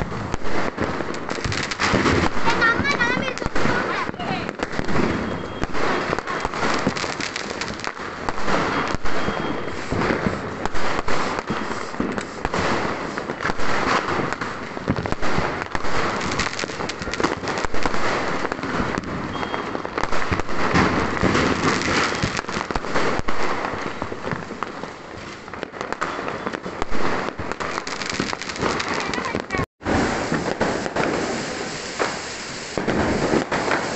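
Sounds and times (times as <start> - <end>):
fireworks bangs and crackling: 0.0 - 33.9.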